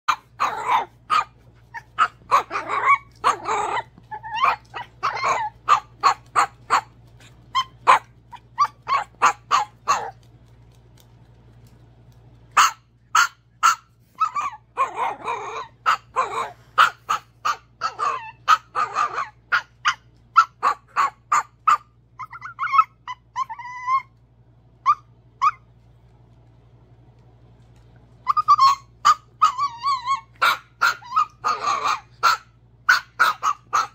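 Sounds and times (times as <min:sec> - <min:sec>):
dog whining: 0:00.1 - 0:10.2, 0:12.6 - 0:24.2, 0:24.8 - 0:25.7, 0:28.2 - 0:33.9
small dog yapping: 0:00.1 - 0:10.3, 0:12.5 - 0:24.2, 0:24.8 - 0:25.7, 0:28.2 - 0:33.9.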